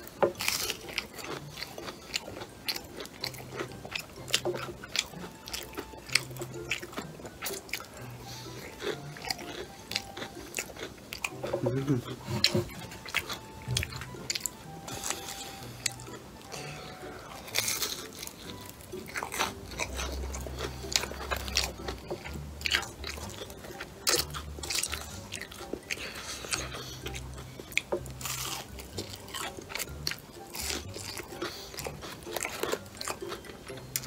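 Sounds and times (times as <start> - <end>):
crunching and chewing fried fish: 0.0 - 34.0.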